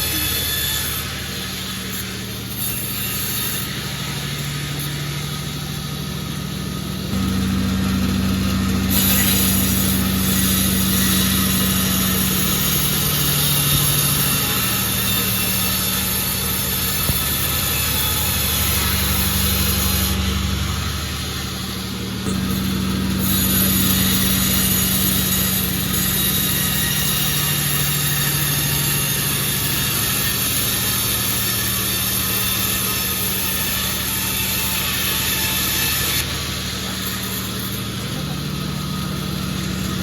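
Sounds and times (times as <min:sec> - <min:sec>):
sawmill engine running: 0:00.0 - 0:40.0.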